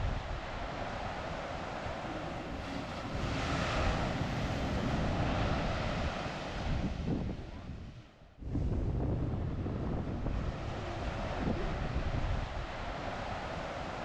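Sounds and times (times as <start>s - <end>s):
ocean surf: 0.0s - 8.0s, 8.7s - 14.0s
wind buffeting microphone: 0.0s - 14.0s.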